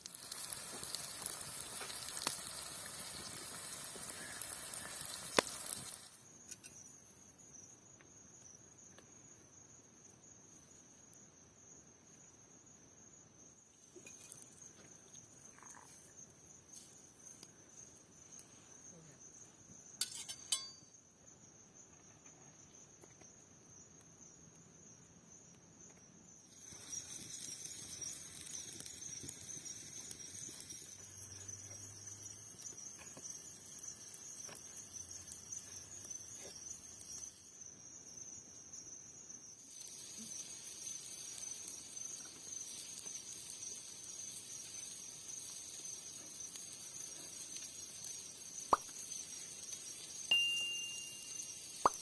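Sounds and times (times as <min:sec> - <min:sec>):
crickets chirping: 0:00.0 - 0:52.0.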